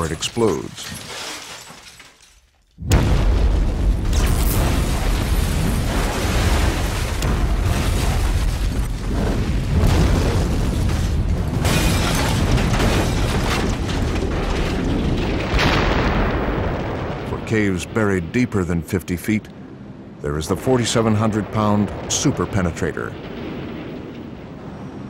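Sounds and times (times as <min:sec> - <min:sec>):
bomb blasts: 0:02.8 - 0:25.0
heavy rumble: 0:02.8 - 0:25.0.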